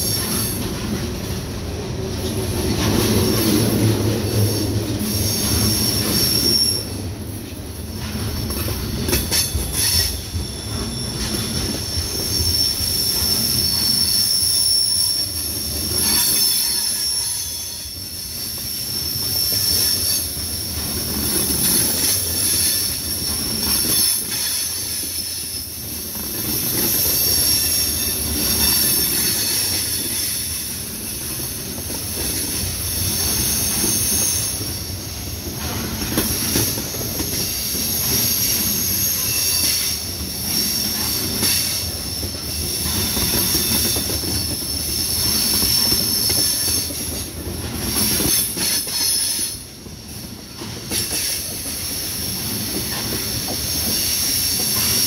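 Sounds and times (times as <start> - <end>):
steel wheels squealing on rails: 0.0 - 55.0.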